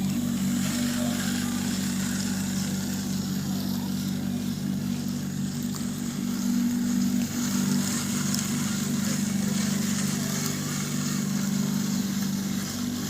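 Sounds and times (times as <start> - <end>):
small electric motors humming: 0.0 - 13.0.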